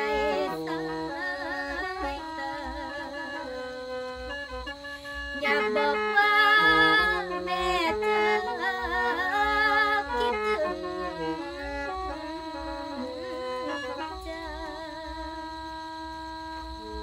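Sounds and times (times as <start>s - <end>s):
mouth organ chords: 0.0s - 15.2s
woman singing: 0.0s - 17.0s.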